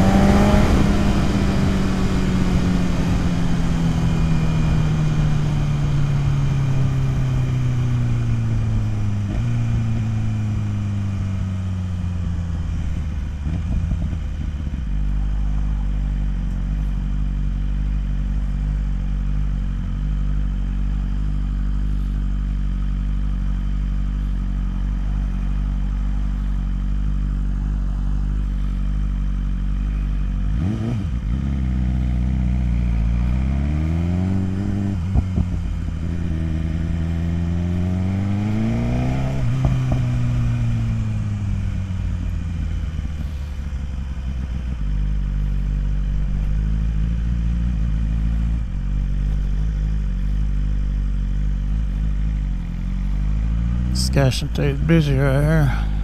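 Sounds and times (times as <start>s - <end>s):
motorcycle engine slowing to idle: 0.6s - 33.6s, 34.3s - 37.8s, 39.4s - 56.0s.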